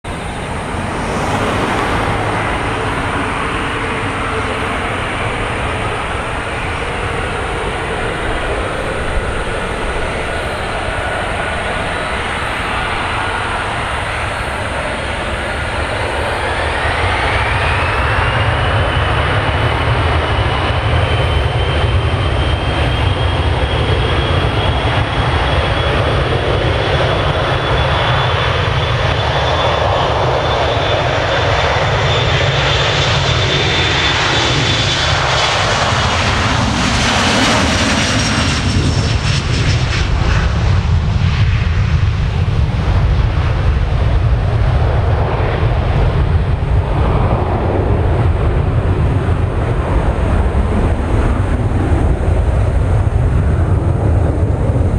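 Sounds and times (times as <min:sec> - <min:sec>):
jet engine deep rumble: 0:00.0 - 0:54.9
jet engine whine: 0:00.0 - 0:54.9.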